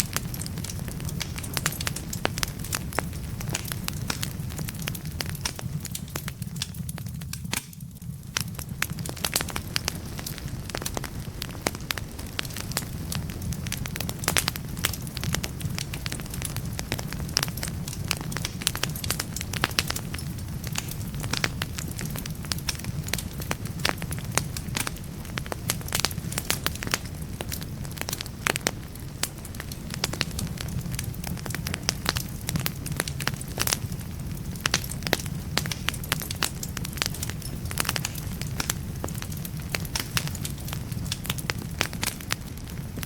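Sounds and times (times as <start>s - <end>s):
firewood crackling and popping: 0.0s - 43.0s
low rumble of flames: 0.0s - 43.0s.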